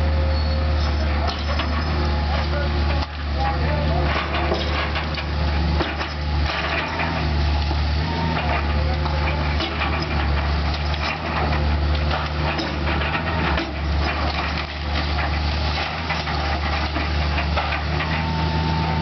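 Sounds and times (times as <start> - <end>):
heavy diesel machine running: 0.0 - 19.0
debris cracking and crunching: 1.2 - 18.3.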